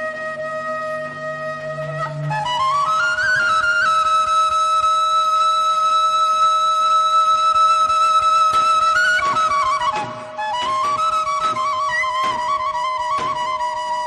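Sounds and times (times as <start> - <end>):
double-reed shawm melody: 0.0 - 14.0.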